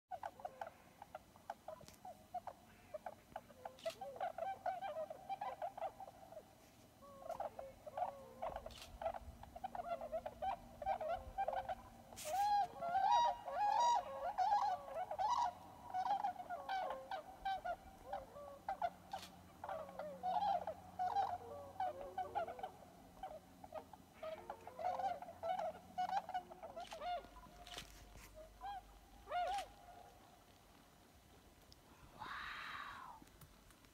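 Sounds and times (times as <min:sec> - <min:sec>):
flock of swans calling: 0:00.1 - 0:31.5.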